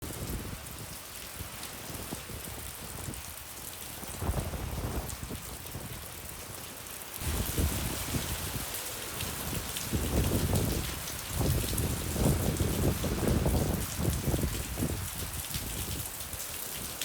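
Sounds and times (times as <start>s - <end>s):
wind rumbling on microphone: 0.0s - 6.6s, 7.2s - 17.0s
heavy rain pouring: 0.0s - 17.0s.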